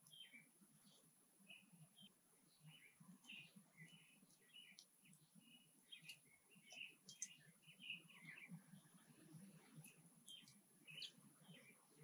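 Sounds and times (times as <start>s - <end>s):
faint songbird chirping: 0.0s - 12.0s.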